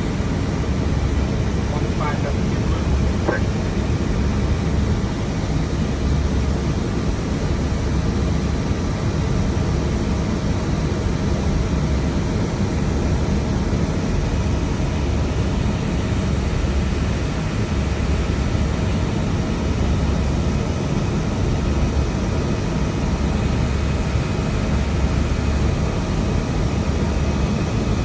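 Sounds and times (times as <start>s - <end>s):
cockpit air and engine noise: 0.0s - 28.0s.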